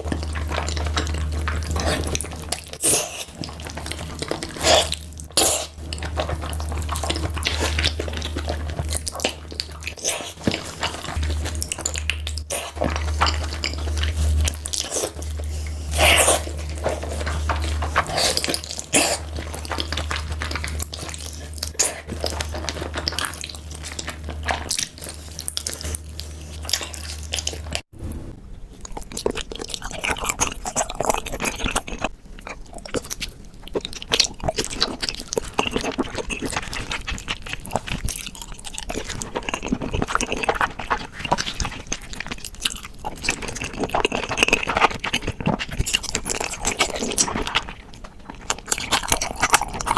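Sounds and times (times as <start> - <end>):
chewing and biting meat: 0.0 - 27.9, 28.8 - 49.9
steady low hum: 0.0 - 49.9.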